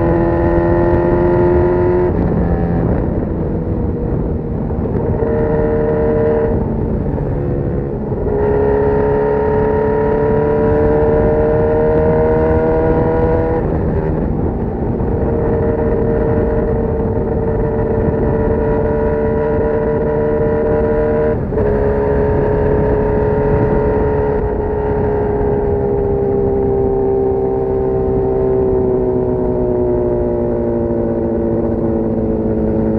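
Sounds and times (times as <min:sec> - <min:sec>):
motorcycle engine revving high: 0:00.0 - 0:32.9.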